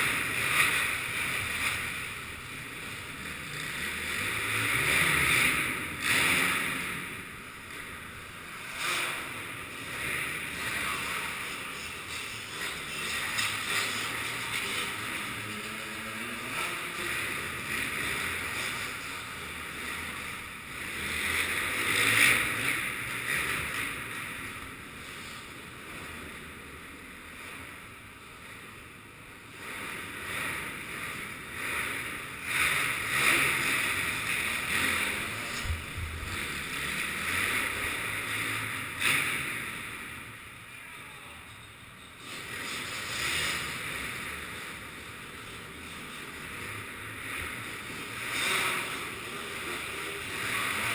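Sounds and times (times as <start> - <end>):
dirt bike engine: 0.0 - 50.9.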